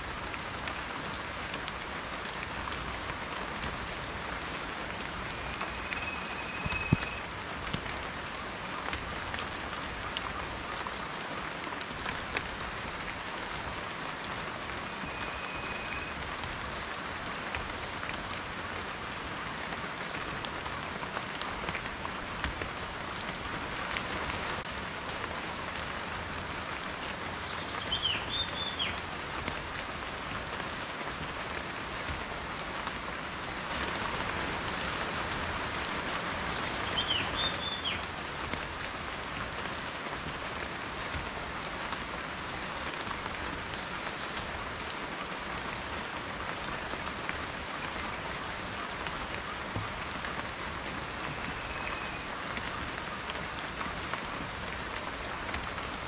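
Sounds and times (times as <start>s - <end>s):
rain falling: 0.0s - 56.0s
raindrops ticking on a surface: 0.0s - 56.0s.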